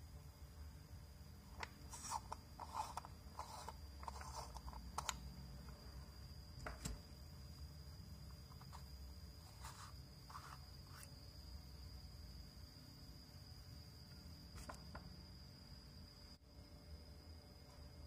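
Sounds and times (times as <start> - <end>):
thin steady whine: 0.0 - 18.0.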